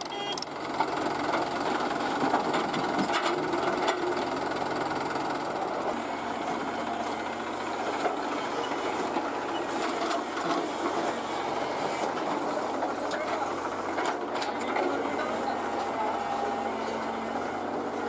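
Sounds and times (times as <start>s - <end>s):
excavator diesel engine clattering: 0.0s - 18.0s.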